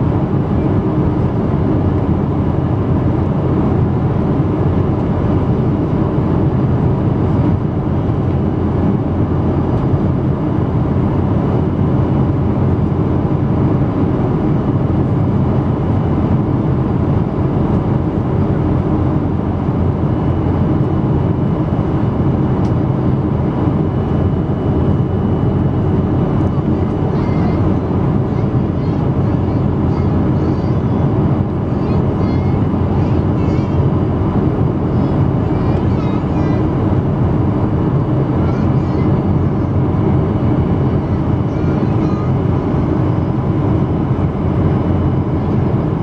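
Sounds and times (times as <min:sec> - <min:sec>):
faint steady hums: 0:00.0 - 0:46.0
jet engines and airflow rushing: 0:00.0 - 0:46.0.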